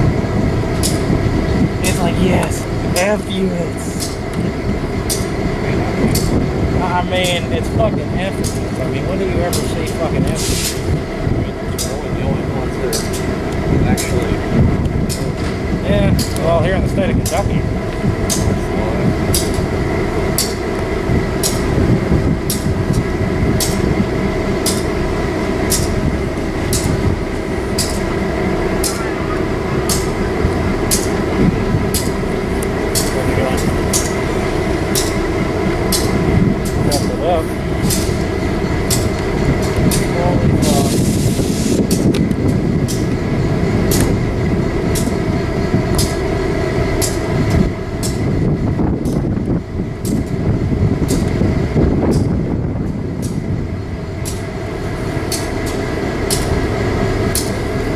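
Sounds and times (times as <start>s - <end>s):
train rumbling by: 0.0s - 57.9s
sharp rhythmic clicks: 0.4s - 57.9s.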